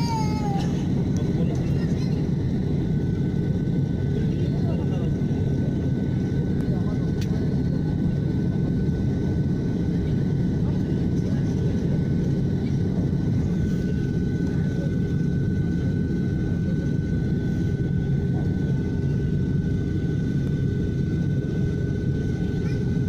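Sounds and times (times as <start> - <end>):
jet engines rumbling and whining: 0.0 - 23.0.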